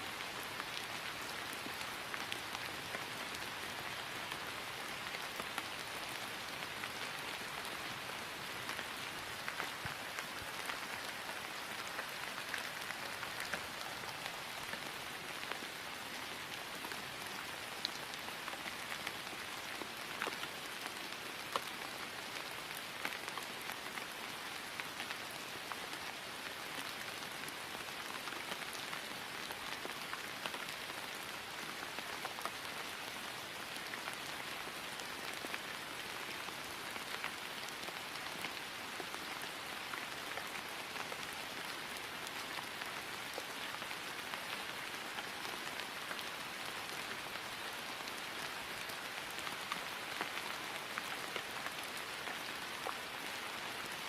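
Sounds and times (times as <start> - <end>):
rain falling on grass: 0.0 - 54.0
raindrops pattering: 0.1 - 54.0.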